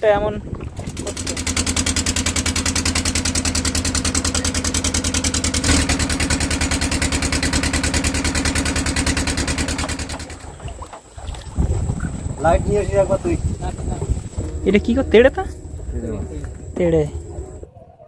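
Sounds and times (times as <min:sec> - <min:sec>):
small boat engine running: 0:00.0 - 0:17.7.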